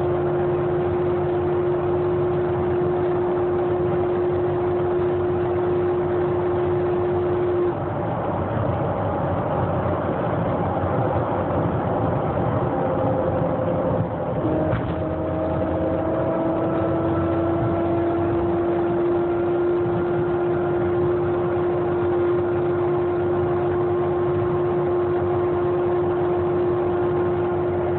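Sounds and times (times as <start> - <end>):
vehicle engine rumble: 0.0 - 27.9
vehicle whine: 0.0 - 27.9.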